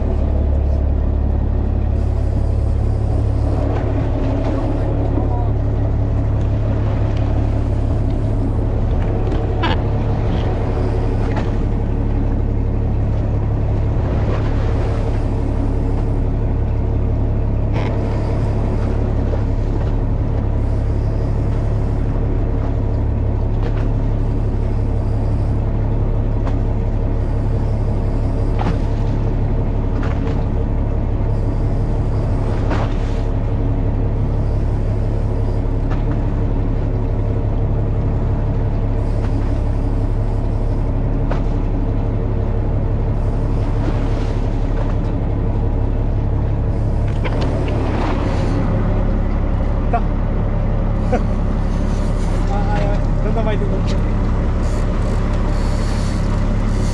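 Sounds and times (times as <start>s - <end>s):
boat engine rumbling: 0.0s - 56.9s.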